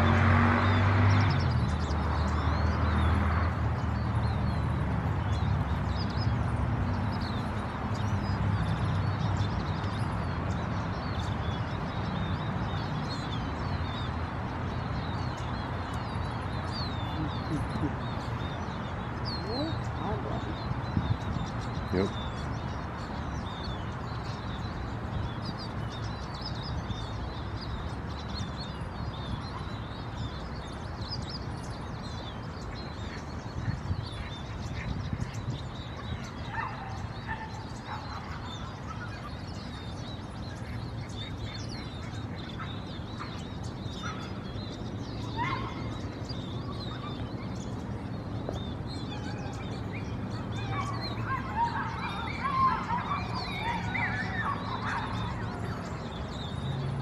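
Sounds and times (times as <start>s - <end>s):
lower bird calls: 0.0s - 57.0s
small birds chirping: 0.0s - 57.0s.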